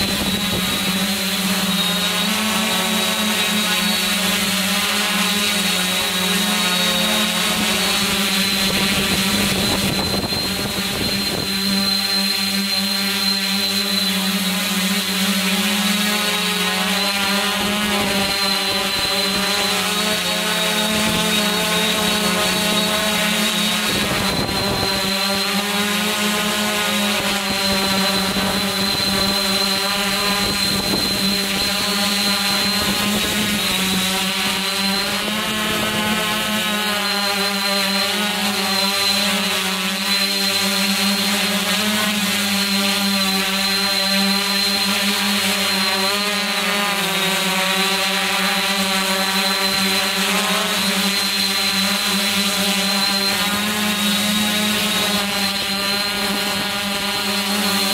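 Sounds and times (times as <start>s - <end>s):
drone motors and propellers humming: 0.0s - 57.9s.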